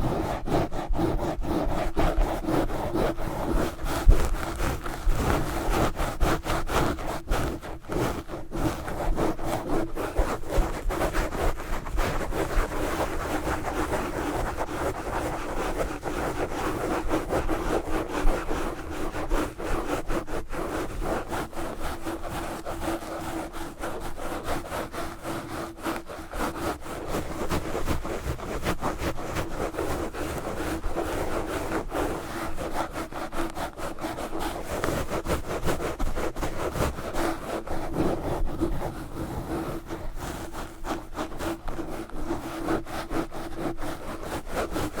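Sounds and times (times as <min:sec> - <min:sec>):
gloves scratching on microphone: 0:00.0 - 0:45.0.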